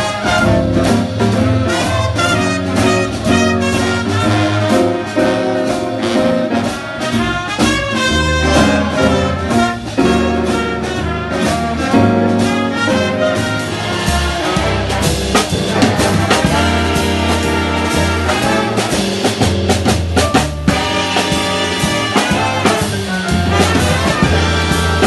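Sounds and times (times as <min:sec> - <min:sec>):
jazz big band playing: 0:00.0 - 0:25.0.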